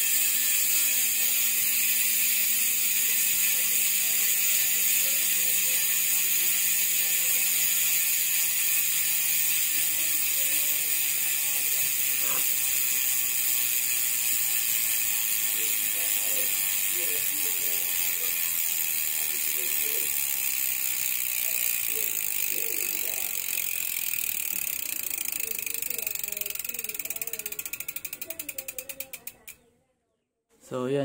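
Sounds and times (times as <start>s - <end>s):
bicycle hub ratchet buzzing: 0.0s - 29.6s.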